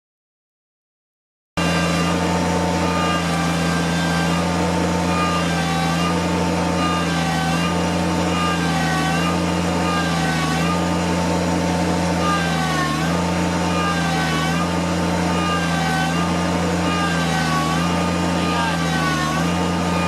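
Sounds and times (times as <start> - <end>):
tractor diesel engine running: 1.6 - 20.0.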